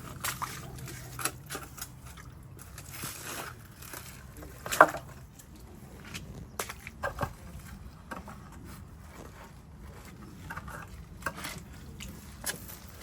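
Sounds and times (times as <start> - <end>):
wet squishes in mud: 0.0 - 13.0.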